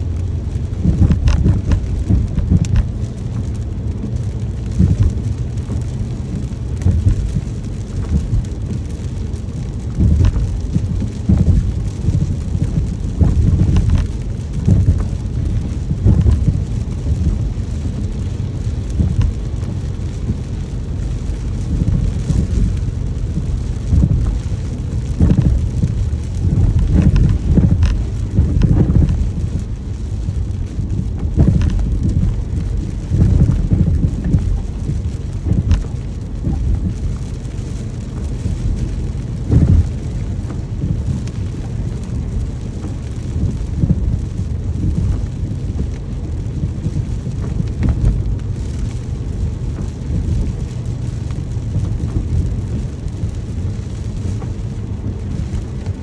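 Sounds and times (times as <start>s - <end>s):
deep rumble: 0.0s - 56.0s
heavy rain falling: 0.0s - 56.0s.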